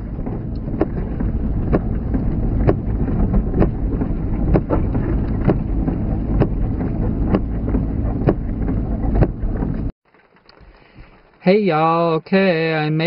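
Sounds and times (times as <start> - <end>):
windshield wipers ticking: 0.0 - 11.1
engine and tyres rumble: 0.0 - 11.5.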